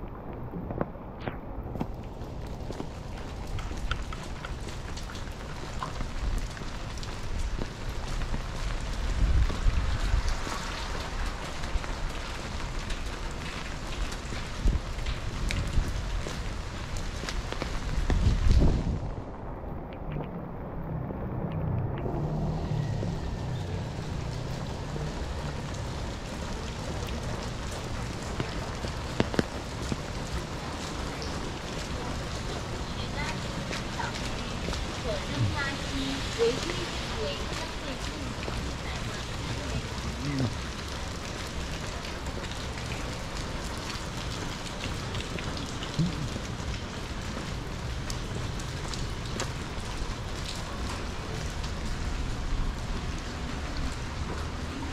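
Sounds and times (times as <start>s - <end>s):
sharp ticks of raindrops: 0.0s - 54.9s
steady rain on wet street: 0.0s - 54.9s.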